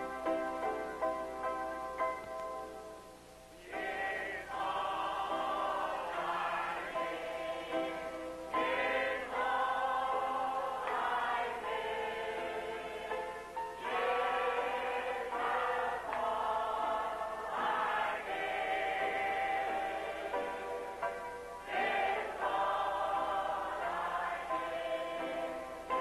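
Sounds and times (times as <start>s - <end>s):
piano accompaniment: 0.0s - 26.0s
choir singing a hymn: 3.6s - 26.0s.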